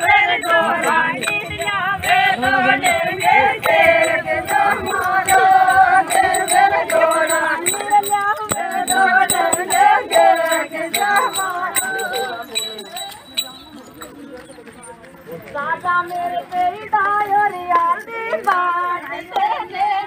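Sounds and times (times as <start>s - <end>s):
women singing together: 0.0s - 12.8s, 15.6s - 20.0s.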